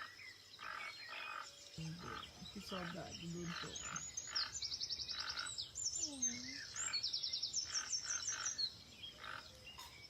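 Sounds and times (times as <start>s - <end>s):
birds trilling and chirping: 0.0s - 10.0s
lower bird calls: 0.0s - 10.0s.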